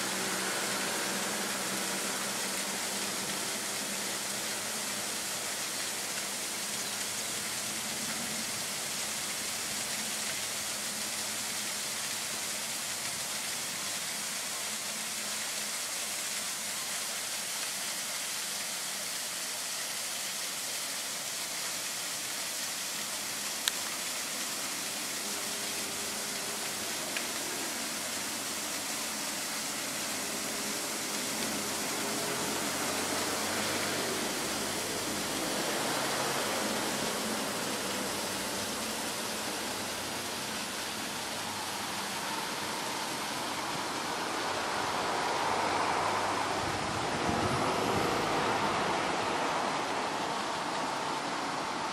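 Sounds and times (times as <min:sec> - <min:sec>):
steady rushing outdoor noise: 0:00.0 - 0:51.9.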